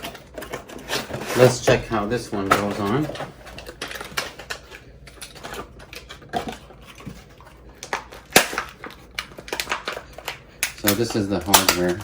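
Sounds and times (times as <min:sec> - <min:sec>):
metal parts and packaging clicking: 0:00.0 - 0:12.0.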